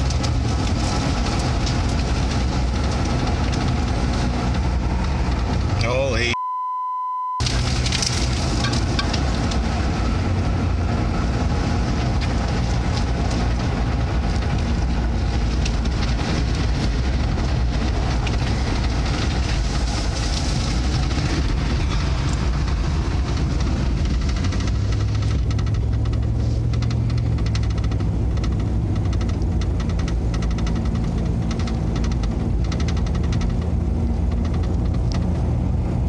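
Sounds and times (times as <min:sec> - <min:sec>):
crackles and clicks: 0:00.0 - 0:06.4, 0:07.4 - 0:36.0
vehicle engine and road rumble: 0:00.0 - 0:36.0.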